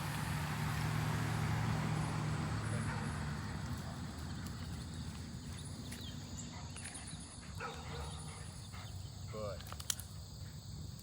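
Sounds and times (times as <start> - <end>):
passing vehicle engine hum: 0.0 - 9.2.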